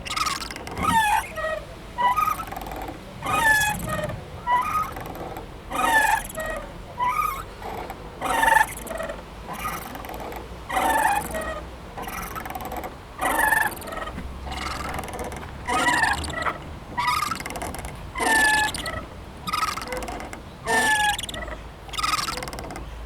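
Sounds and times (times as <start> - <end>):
playground swing squeaking: 0.0 - 23.0.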